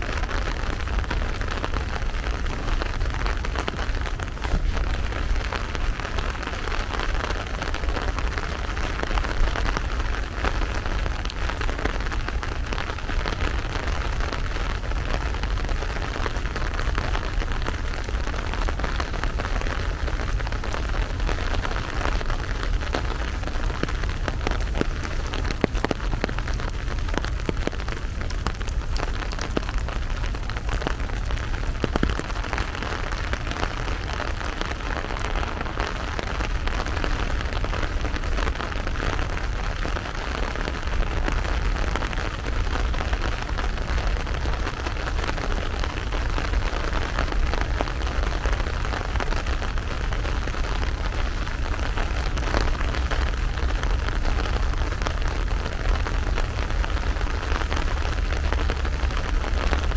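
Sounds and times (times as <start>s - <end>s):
rain drops ticking: 0.0s - 59.9s
rain hiss: 0.0s - 59.9s.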